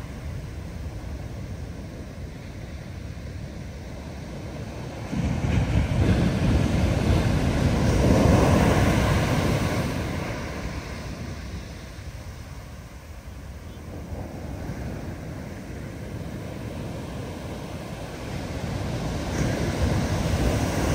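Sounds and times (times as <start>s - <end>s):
large wave crashing: 0.0s - 20.9s
surf washing: 0.0s - 20.9s.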